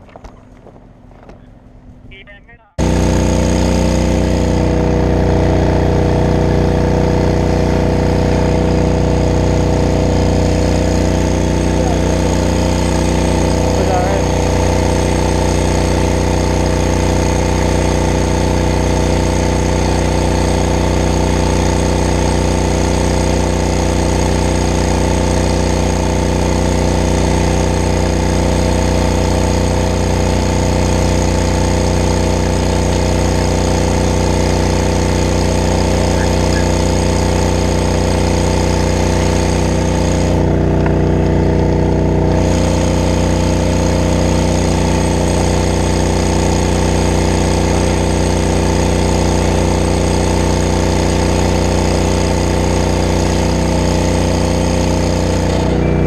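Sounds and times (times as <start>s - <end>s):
pump engine running: 0.0s - 56.0s
hose spraying water: 3.0s - 55.8s.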